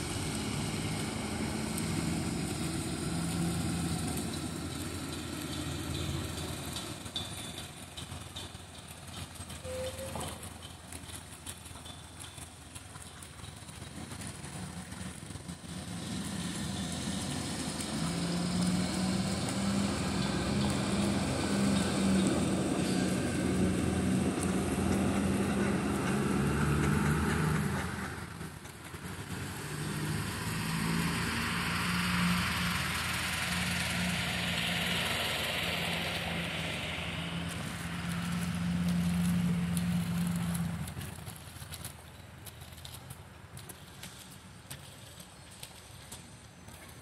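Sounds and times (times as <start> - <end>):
vehicle engine humming: 0.0 - 47.0.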